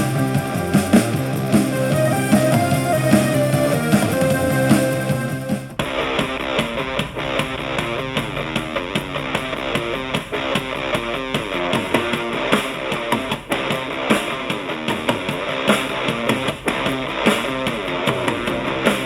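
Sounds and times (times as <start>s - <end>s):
punk rock music through small speaker: 0.0s - 19.0s.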